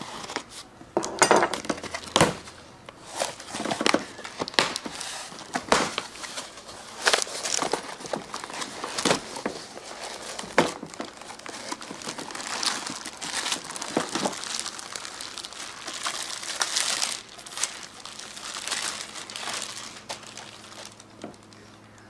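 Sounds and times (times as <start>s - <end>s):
cardboard packaging rustling: 0.0s - 0.7s, 1.5s - 21.6s
plastic bag crinkling: 1.5s - 21.7s.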